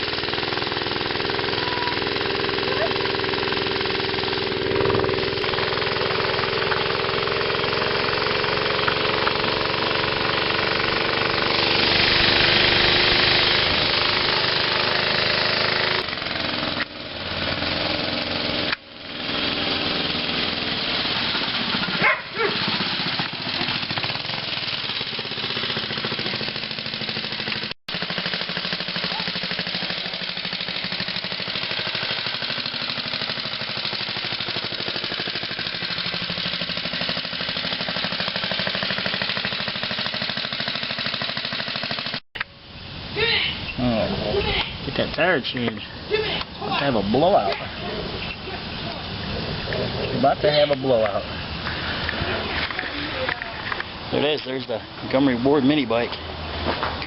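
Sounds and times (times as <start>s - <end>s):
small engine running rattly: 0.0s - 42.2s, 43.9s - 57.0s.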